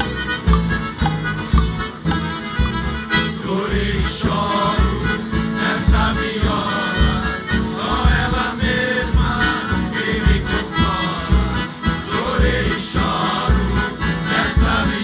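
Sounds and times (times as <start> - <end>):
reedy lead melody: 0.0 - 15.0
steady bass beat: 0.0 - 15.0.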